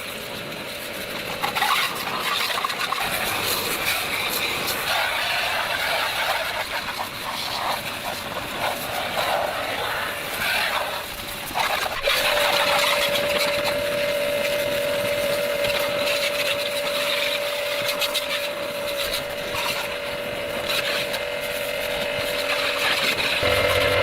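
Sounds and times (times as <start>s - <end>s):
small motor running: 0.0s - 24.0s.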